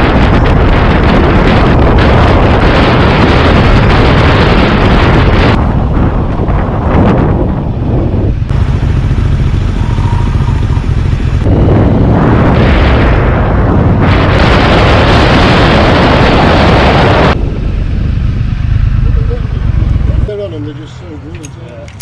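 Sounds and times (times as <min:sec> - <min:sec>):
wind rushing over microphone: 0:00.0 - 0:21.3
motorcycle engine running: 0:00.0 - 0:21.4.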